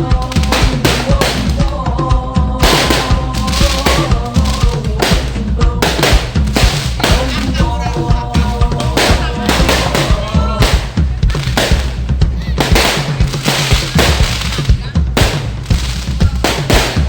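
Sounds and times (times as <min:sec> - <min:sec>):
firecrackers banging: 0:00.0 - 0:17.0
loud music with heavy beat: 0:00.0 - 0:17.0
voices chanting: 0:00.0 - 0:17.0.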